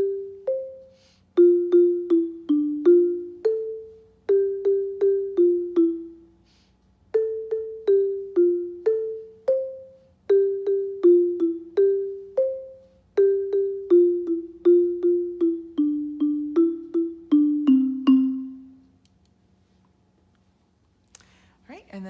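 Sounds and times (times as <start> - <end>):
xylophone melody: 0.0 - 6.3, 7.1 - 18.9.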